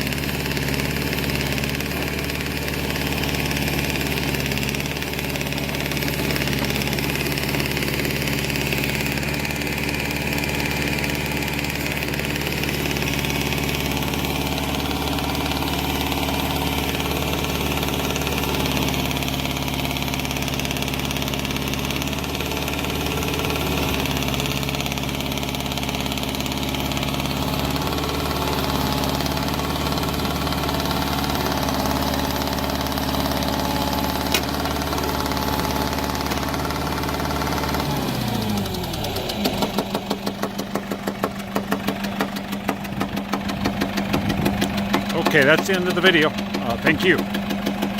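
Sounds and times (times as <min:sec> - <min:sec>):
backhoe engine idling: 0:00.0 - 0:47.9.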